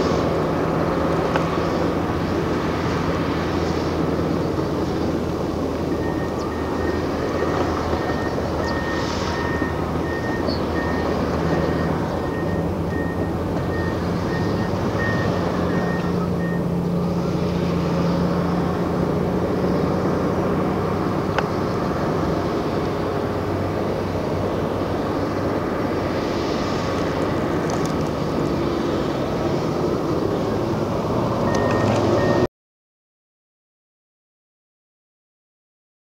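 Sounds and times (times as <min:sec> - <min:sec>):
heavy diesel engines running: 0:00.0 - 0:32.5.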